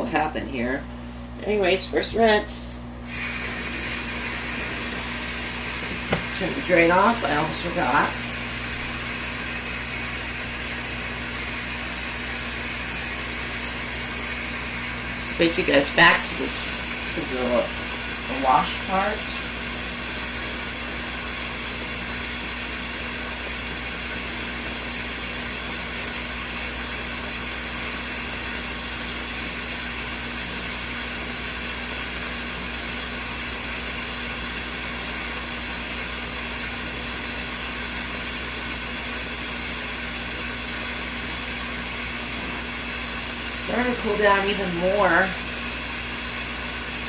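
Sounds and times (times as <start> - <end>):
washing machine motor humming: 0.0 - 47.0.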